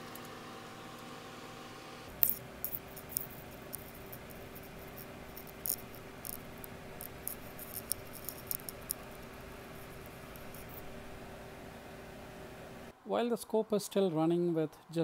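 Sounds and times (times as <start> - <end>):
cooling fan humming: 0.0 - 15.0.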